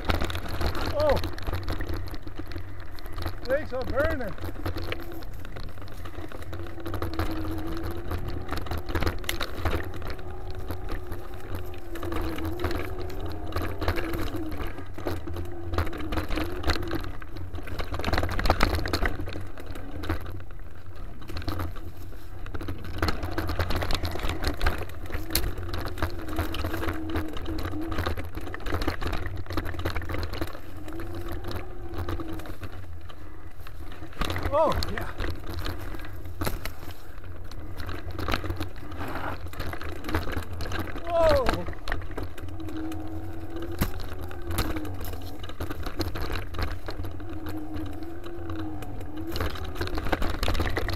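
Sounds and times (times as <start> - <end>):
bike jolt: 0.0 - 50.9
bike rattling over dirt trail: 0.0 - 50.9
wavering low hum: 0.0 - 50.9
wind rumble on microphone: 0.0 - 50.9.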